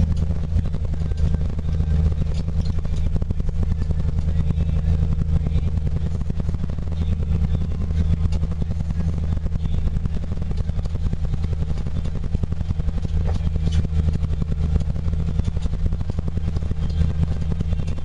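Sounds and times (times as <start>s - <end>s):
engine humming and rattling: 0.0s - 18.0s.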